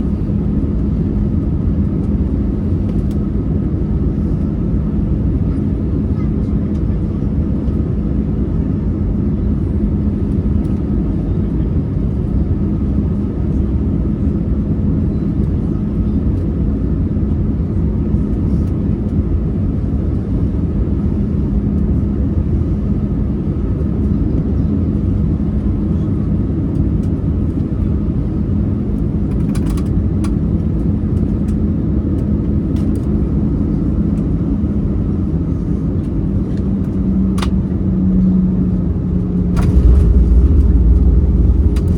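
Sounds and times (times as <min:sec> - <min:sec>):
airliner cabin engine rush: 0:00.0 - 0:41.9
constant low hum: 0:00.0 - 0:41.9.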